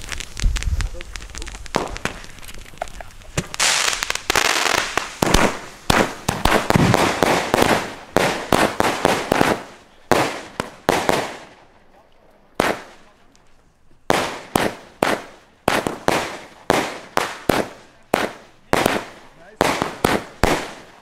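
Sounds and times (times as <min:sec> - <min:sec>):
fireworks launching and bursting: 0:00.0 - 0:13.4, 0:14.0 - 0:21.0
firework crackling: 0:00.0 - 0:21.0.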